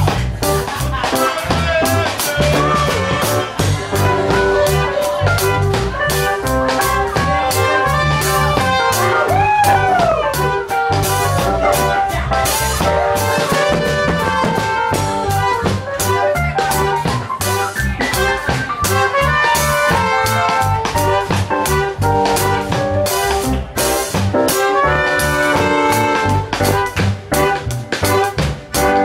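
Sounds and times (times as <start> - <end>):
drum kit beat: 0.0 - 29.0
live band playing: 0.0 - 29.0.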